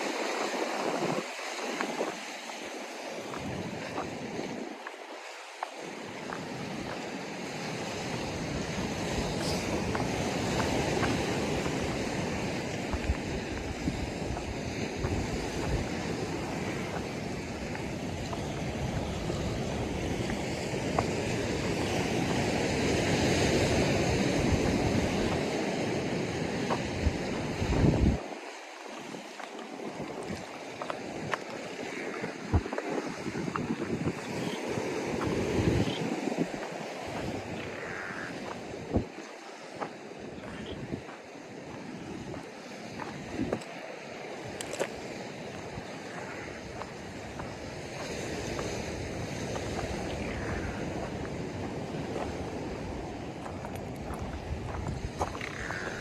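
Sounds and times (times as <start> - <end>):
ocean surf washing ashore: 0.0 - 56.0
wind buffeting microphone: 0.0 - 56.0.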